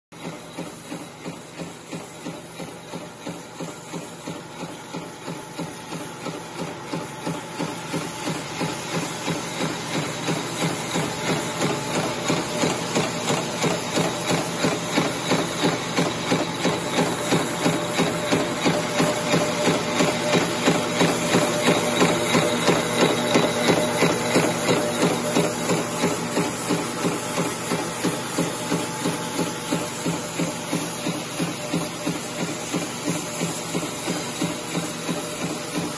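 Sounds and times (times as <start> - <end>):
machine mechanical whir: 0.2 - 35.9.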